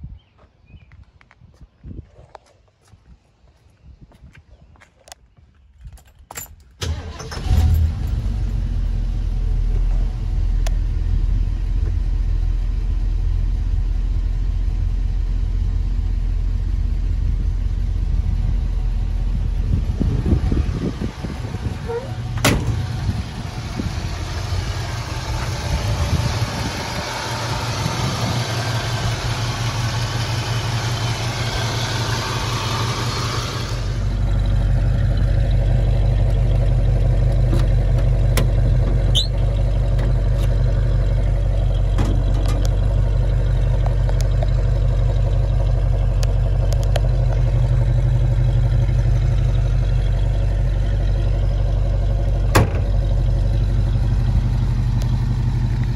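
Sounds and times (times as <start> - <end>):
car engine idling: 6.8 - 55.9.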